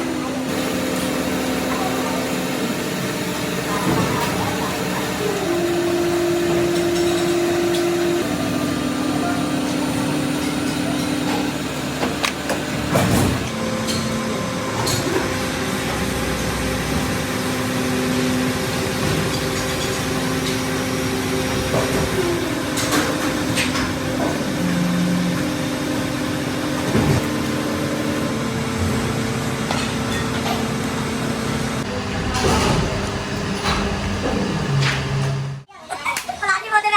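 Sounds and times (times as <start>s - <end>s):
factory machinery humming: 0.0s - 35.7s.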